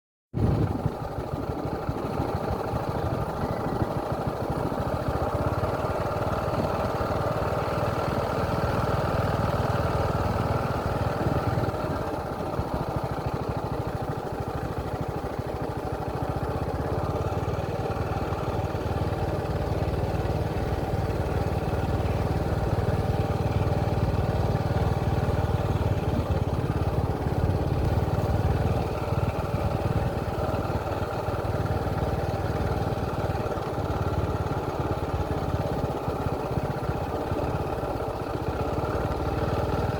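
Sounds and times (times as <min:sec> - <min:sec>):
vehicle engine running: 0:00.4 - 0:39.9.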